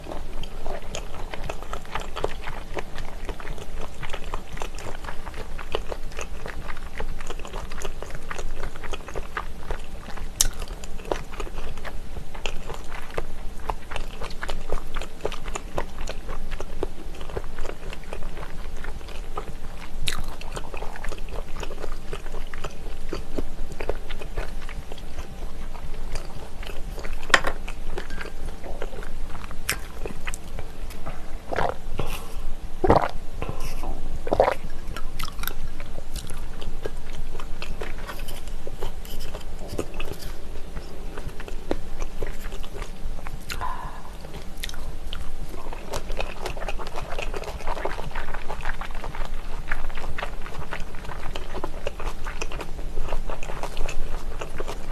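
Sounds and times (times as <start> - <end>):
wet chewing and crunching: 0.0 - 54.9.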